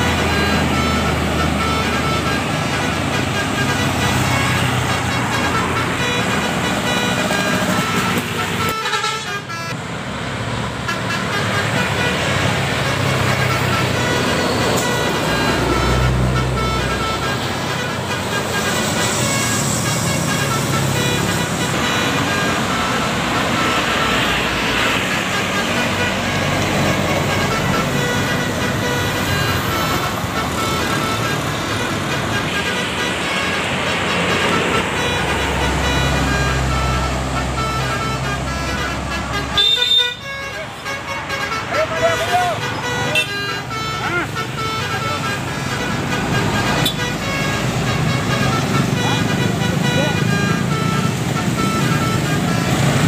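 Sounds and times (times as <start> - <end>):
musical bus horn playing tune: 0.0 - 9.8, 10.8 - 53.0
rumble of passing traffic: 0.0 - 53.0.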